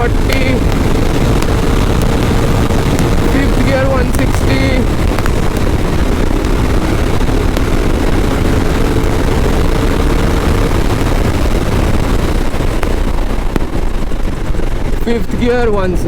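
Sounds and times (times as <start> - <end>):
motorcycle engine running hard: 0.0 - 16.0
wind noise on microphone: 0.0 - 16.0.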